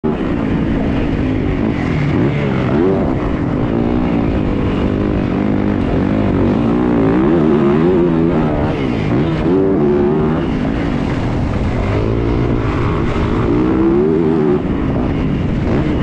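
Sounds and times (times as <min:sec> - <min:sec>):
motocross bike engine revving: 0:00.0 - 0:16.0
wind rushing noise: 0:00.0 - 0:16.0.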